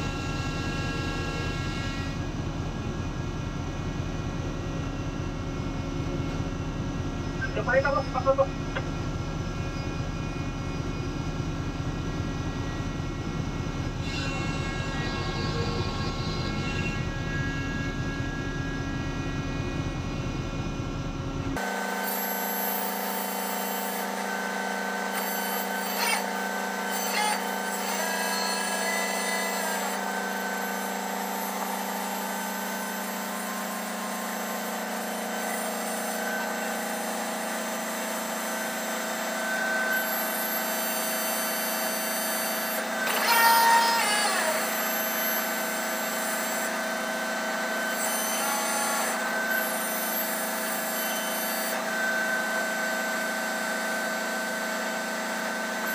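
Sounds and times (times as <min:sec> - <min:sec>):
crane machinery droning: 0:00.0 - 0:55.9.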